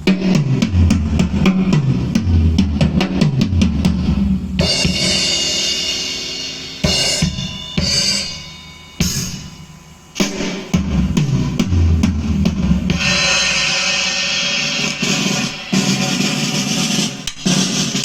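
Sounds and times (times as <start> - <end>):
cymbal wash: 0.0 - 18.0
loud recorded music with drums: 0.0 - 18.0.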